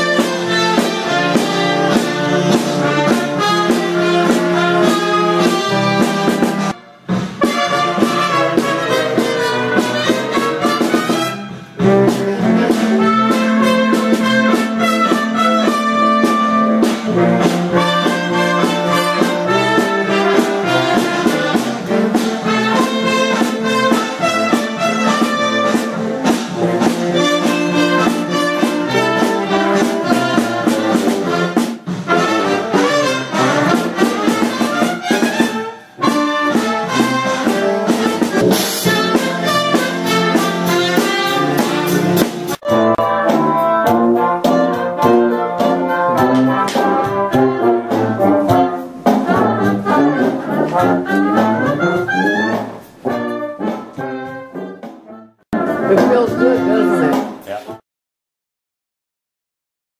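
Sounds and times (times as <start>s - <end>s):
live jazz with trumpet and saxophones: 0.0s - 57.8s.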